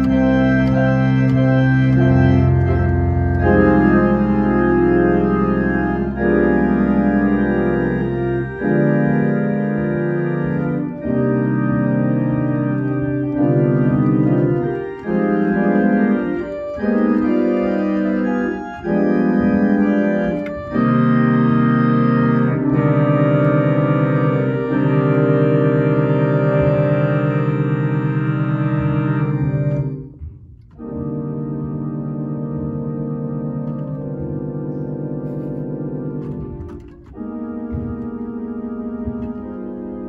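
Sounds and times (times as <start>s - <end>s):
church organ full chords: 0.0s - 40.0s
deep organ pedal bass note: 0.0s - 40.0s.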